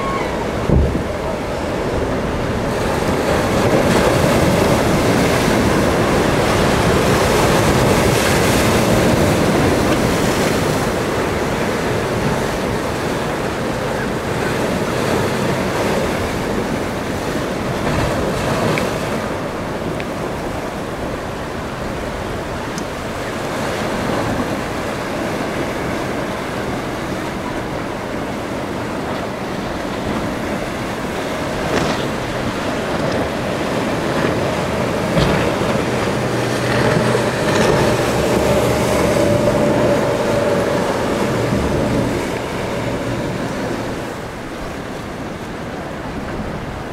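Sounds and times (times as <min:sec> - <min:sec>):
churning boat wake water: 0:00.0 - 0:46.9
rough surf: 0:00.0 - 0:46.9
wind buffeting microphone: 0:00.0 - 0:46.9.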